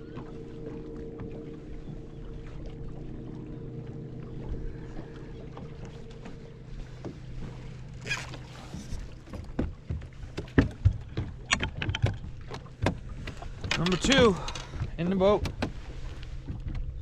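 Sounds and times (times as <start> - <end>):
electric boat motor humming: 0.0 - 15.0
knocks and clatters on boat: 0.0 - 17.0.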